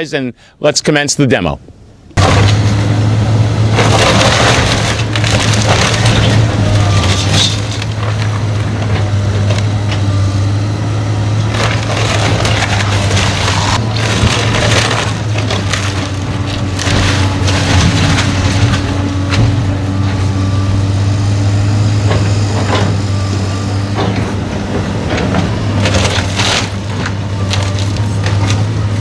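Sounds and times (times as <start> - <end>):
machine engine drone: 2.2 - 29.0
timber cracking and crashing: 2.2 - 29.0.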